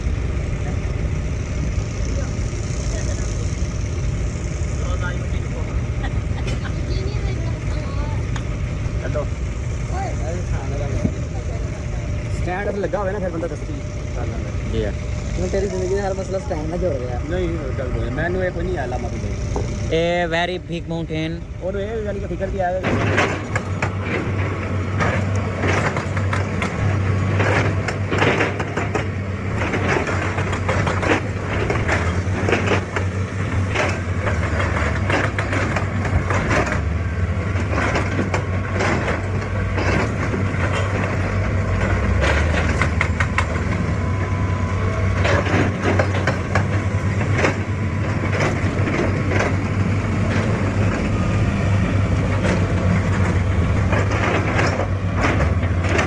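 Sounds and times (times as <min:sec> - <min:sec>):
excavator diesel engine humming: 0:00.0 - 0:56.0
metal and rock clanking: 0:10.2 - 0:56.0.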